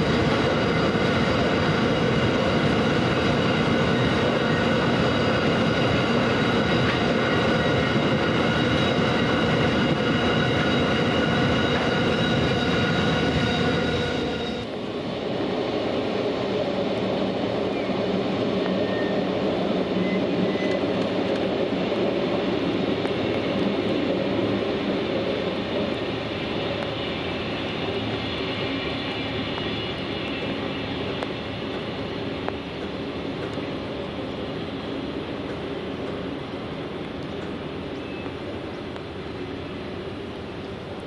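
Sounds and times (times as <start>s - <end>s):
electric passenger train pulling away: 0.0s - 41.0s
freight train wheels rumbling: 0.0s - 41.0s.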